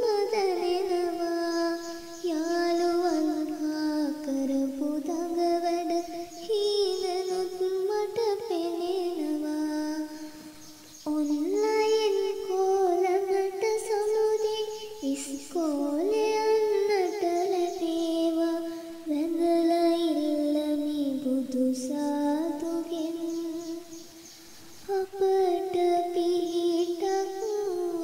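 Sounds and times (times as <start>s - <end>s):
child singing: 0.0s - 28.0s.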